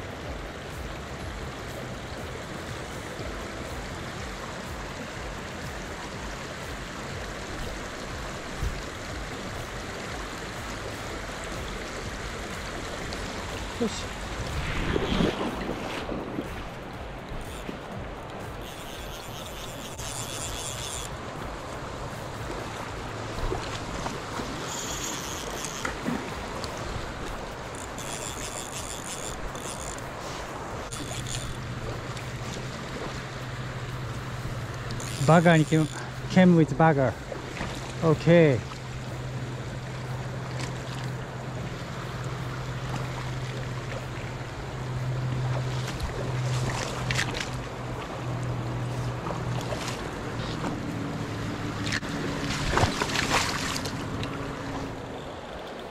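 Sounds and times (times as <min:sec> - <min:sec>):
creek water flowing: 0:00.0 - 0:55.9.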